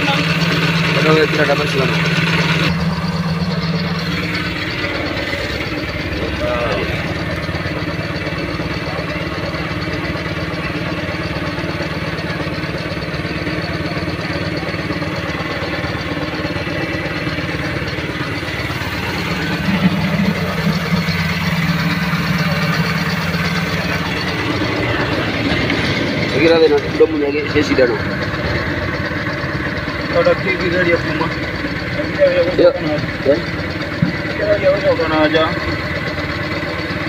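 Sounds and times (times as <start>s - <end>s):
deep drone: 0.0s - 37.0s
engine idling: 0.0s - 37.0s.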